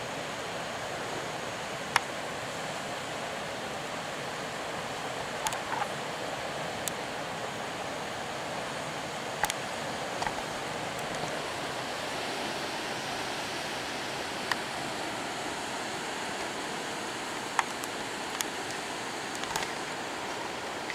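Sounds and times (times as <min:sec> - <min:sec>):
fast river current rushing: 0:00.0 - 0:20.9.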